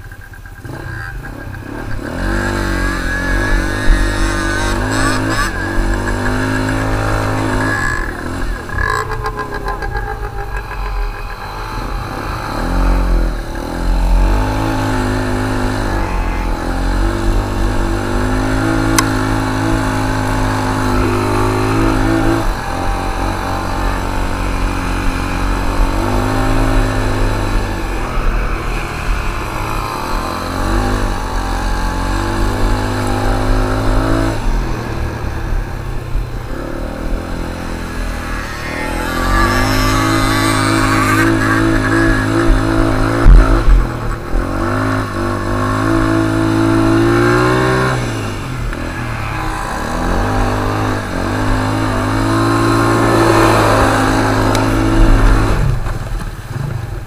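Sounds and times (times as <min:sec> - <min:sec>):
quad engine revving: 0:00.0 - 0:56.2.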